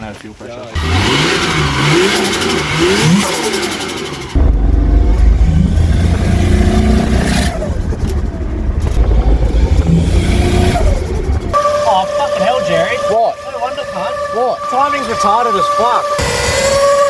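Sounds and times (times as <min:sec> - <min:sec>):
turbocharged engine revving: 0:00.7 - 0:17.0.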